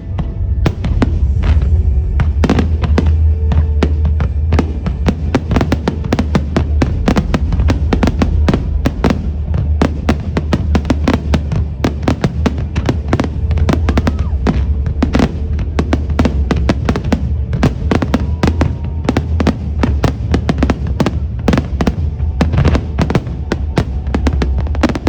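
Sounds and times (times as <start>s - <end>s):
continuous low rumble: 0.0s - 25.0s
fireworks cracking: 0.5s - 25.0s.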